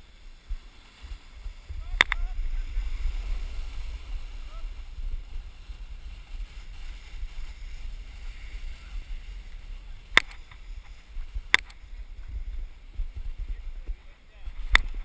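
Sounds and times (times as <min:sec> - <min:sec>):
snowboard sliding on snow: 0:00.0 - 0:15.0
wind rumbling on microphone: 0:00.0 - 0:15.0.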